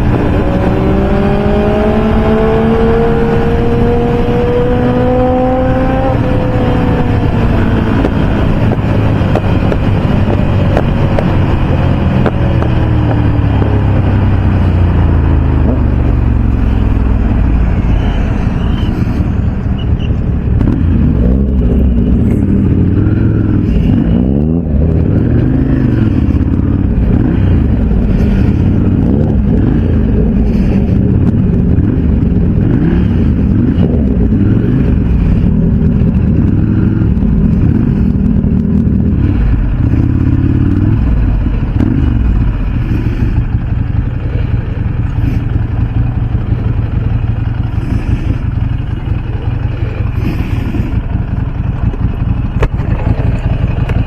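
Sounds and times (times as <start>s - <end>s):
heavy wind rush: 0.0s - 54.0s
motorcycle engine running: 0.0s - 54.0s.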